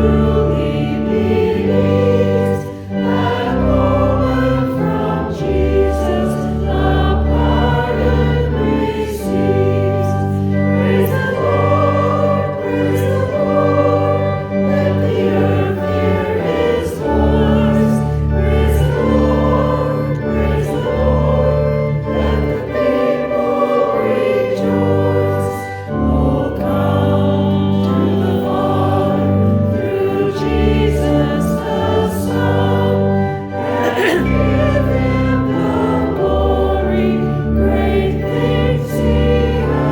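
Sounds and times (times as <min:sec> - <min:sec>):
choir singing a hymn: 0:00.0 - 0:39.9
sustained instrumental accompaniment: 0:00.0 - 0:39.9.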